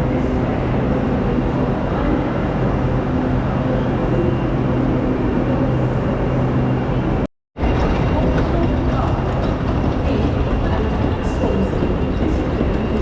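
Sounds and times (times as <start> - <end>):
low engine hum: 0.0 - 13.0
train rumbling at platform: 0.0 - 13.0.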